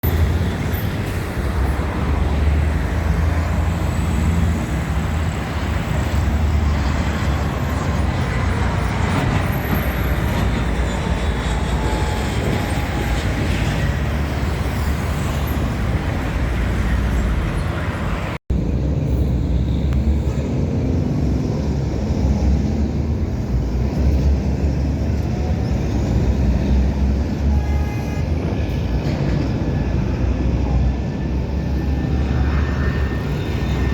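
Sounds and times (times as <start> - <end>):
traffic with low rumble: 0.0 - 33.9.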